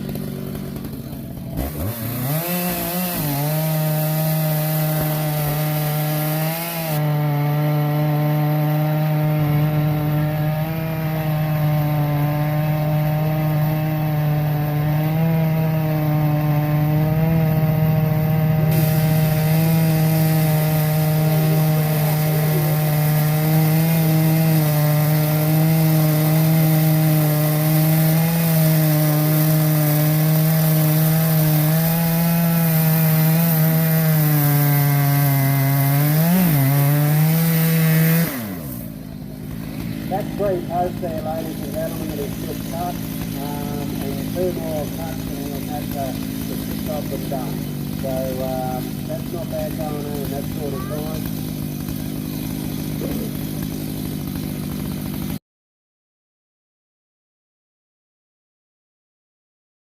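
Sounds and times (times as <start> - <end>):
chainsaw cutting wood: 0.0 - 55.4.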